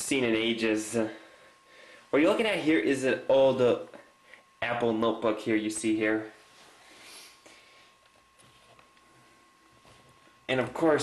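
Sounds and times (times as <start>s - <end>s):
thin steady whine: 0.0s - 11.0s.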